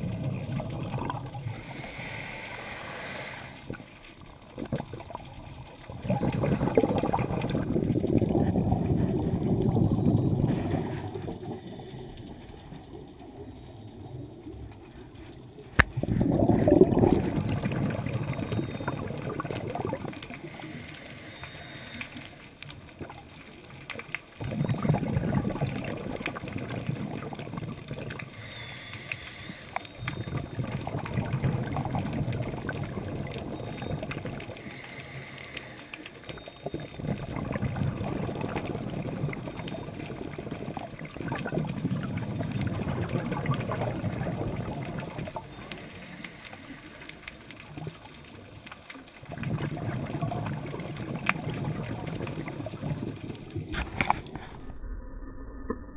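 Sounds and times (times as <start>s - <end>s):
underwater exhaled bubbles gurgling: 0.0s - 54.8s.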